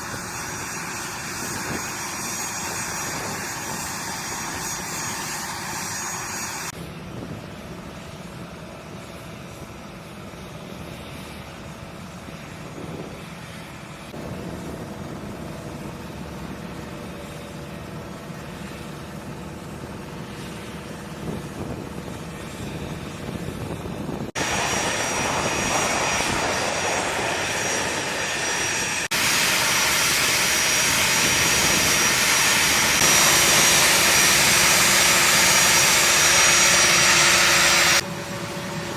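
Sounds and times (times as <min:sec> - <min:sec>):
jet engines running with whine: 0:00.0 - 0:38.9.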